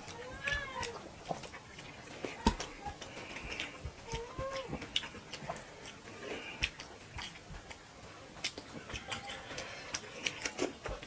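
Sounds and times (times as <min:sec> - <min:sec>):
fingers mixing rice on plates: 0:00.0 - 0:11.0
person chewing: 0:00.0 - 0:11.0.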